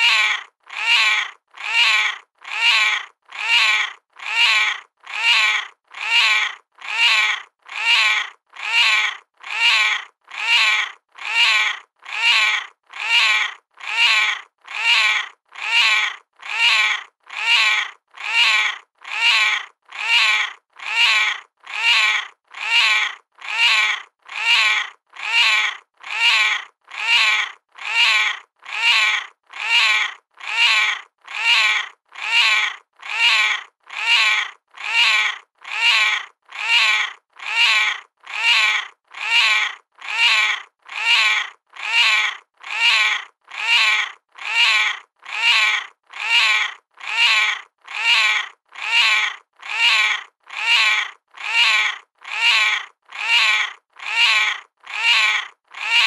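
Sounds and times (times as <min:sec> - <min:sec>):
cat meowing: 0:00.0 - 0:56.0.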